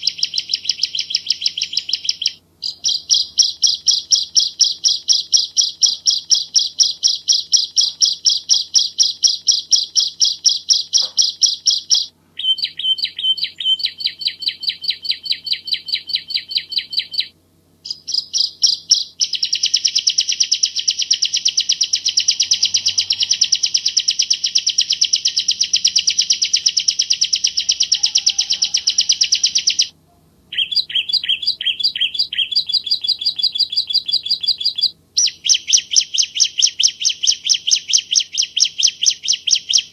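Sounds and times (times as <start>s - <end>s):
bird singing high trilling notes: 0.0s - 29.9s, 30.5s - 39.9s.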